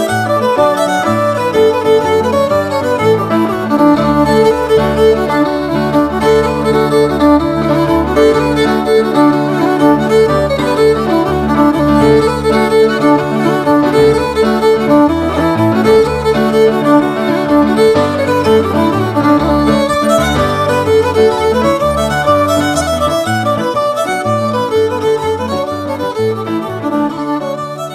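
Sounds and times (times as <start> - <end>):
fiddle music: 0.0 - 27.9.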